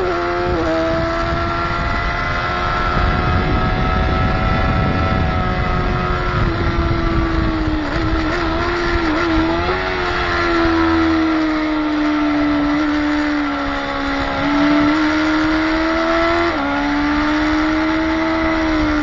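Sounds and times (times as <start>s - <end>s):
motorcycle engine running hard: 0.0s - 19.0s.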